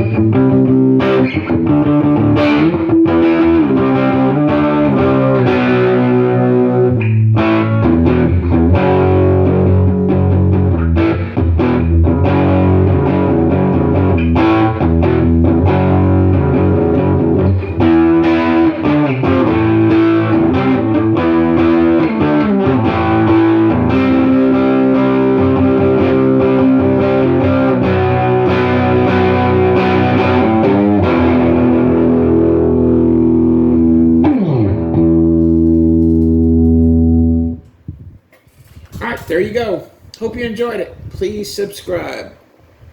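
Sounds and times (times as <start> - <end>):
electric guitar notes and chords: 0.0 - 37.8.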